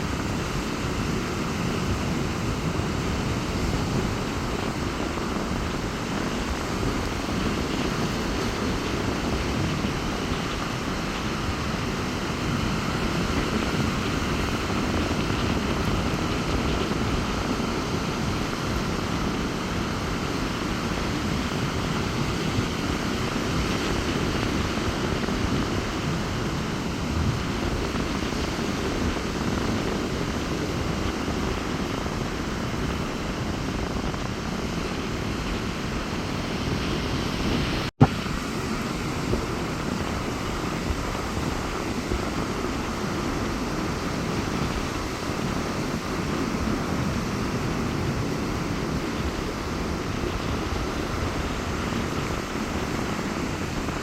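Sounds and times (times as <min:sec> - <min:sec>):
rough sea surf washing onto beach: 0:00.0 - 0:54.0
wind rumble on microphone: 0:00.0 - 0:54.0.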